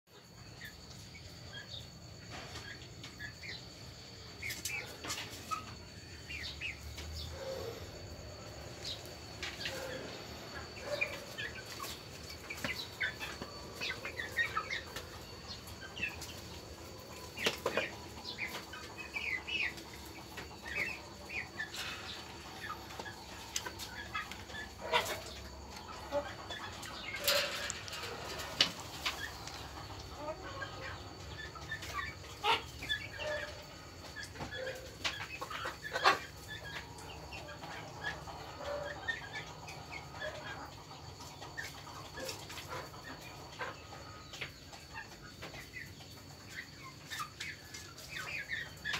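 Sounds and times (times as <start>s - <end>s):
chickens clucking: 0.1s - 48.9s.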